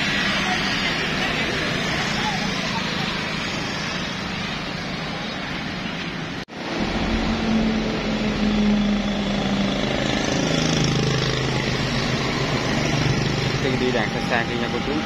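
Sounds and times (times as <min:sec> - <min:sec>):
engine hum shifting in pitch: 0:00.0 - 0:15.0
motorbikes and cars passing: 0:00.0 - 0:15.0.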